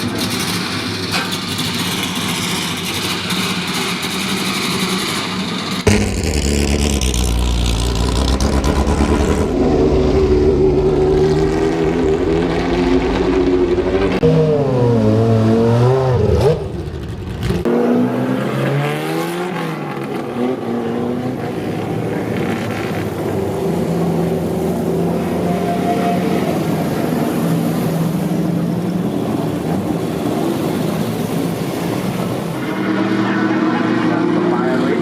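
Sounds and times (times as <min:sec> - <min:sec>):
racing car engines revving: 0:00.0 - 0:35.0.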